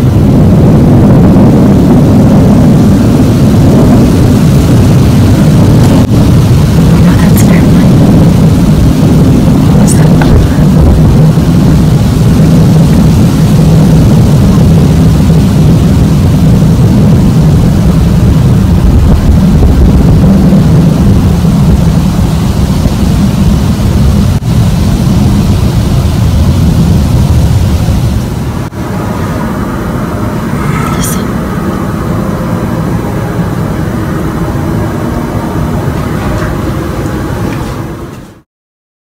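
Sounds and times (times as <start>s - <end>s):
low rumbling drone: 0.0s - 38.4s.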